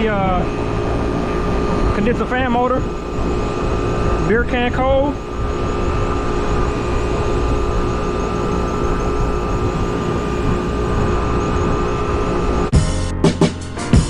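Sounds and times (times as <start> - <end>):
rooftop unit machine noise: 0.0 - 12.8.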